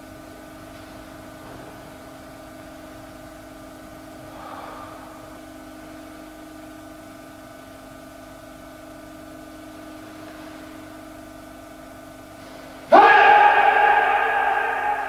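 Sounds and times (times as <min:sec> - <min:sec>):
video recording hum and hiss: 0:00.0 - 0:15.0.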